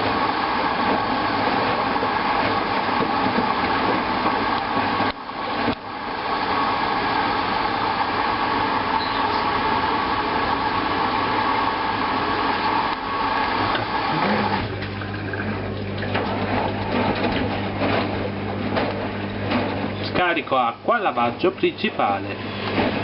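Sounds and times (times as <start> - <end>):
washing machine low hum: 0.0 - 23.0
washing machine whine: 0.0 - 23.0.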